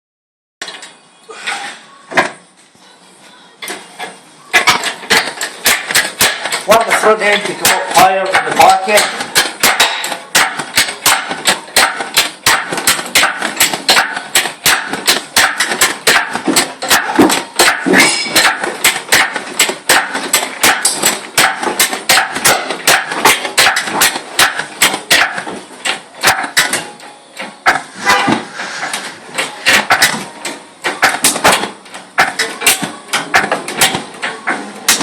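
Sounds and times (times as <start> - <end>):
metallic knocks and clanks: 3.6 - 35.0.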